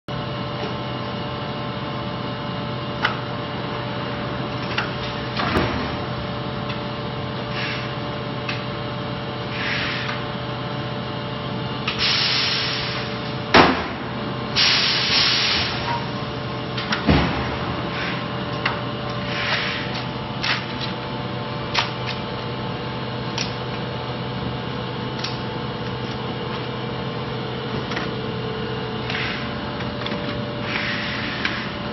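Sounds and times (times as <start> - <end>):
machine mechanical hum: 0.1 - 31.9.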